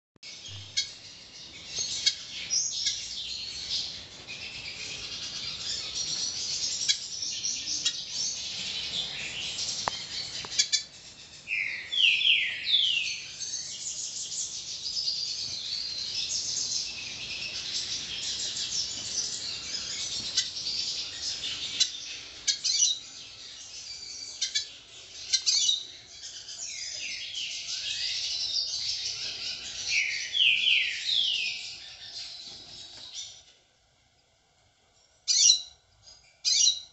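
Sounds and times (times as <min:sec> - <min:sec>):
birds chirping and singing: 0:00.2 - 0:33.5, 0:35.3 - 0:36.9.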